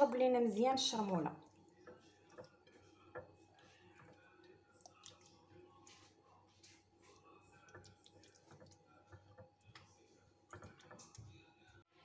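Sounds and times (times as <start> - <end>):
wet squishing: 1.4 - 11.5.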